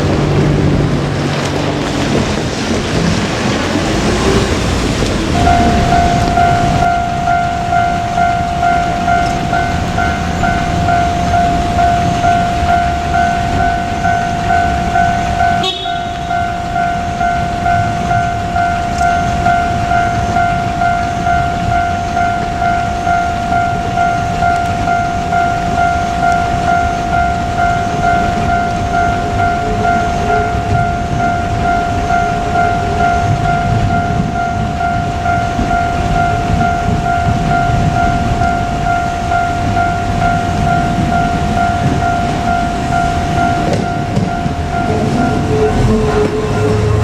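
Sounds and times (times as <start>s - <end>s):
diesel railcar rumble: 0.0s - 47.0s
level-crossing warning bell: 0.0s - 47.0s.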